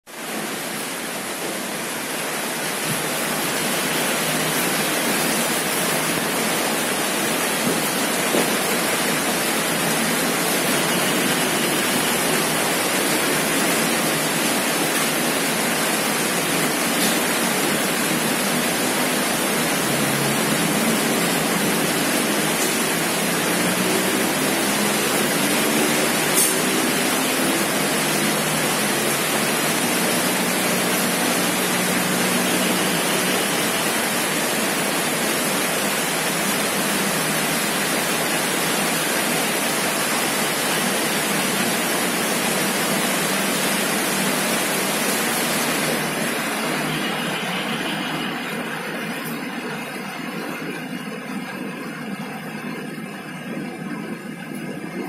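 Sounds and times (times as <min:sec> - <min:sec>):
running water rushing: 0:00.1 - 0:55.0.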